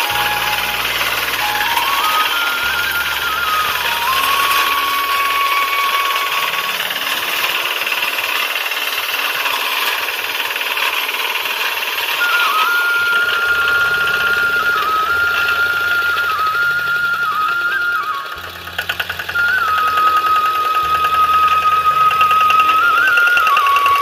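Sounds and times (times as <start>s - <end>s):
diesel farm machine running: 0.0s - 24.0s
flute-like melody: 0.0s - 24.0s.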